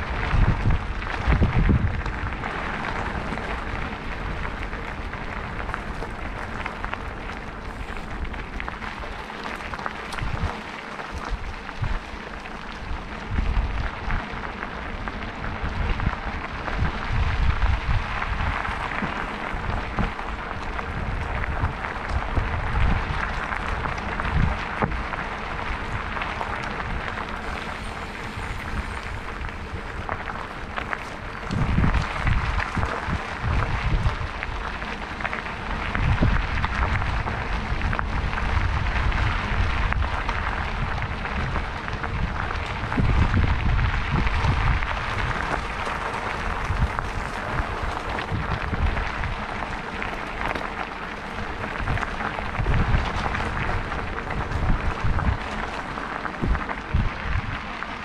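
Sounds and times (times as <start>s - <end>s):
bike clicks and rattles: 0.0s - 58.0s
bike tyres crackling on gravel: 0.0s - 58.0s
wind buffeting microphone: 0.0s - 58.0s.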